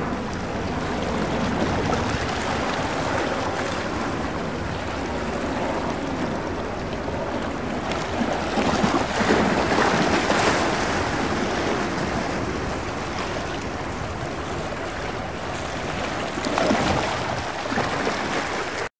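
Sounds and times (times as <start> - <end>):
faint low aircraft drone: 0.0 - 18.9
waves washing on shore: 0.0 - 18.9
wind buffeting microphone: 0.0 - 18.9.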